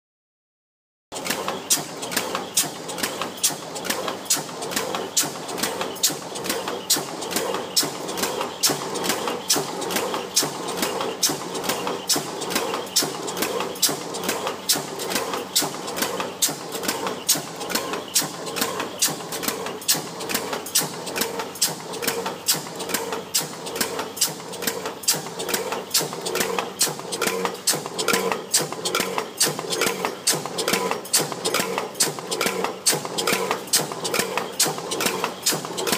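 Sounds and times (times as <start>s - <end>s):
stamping press clacking: 1.2s - 35.9s.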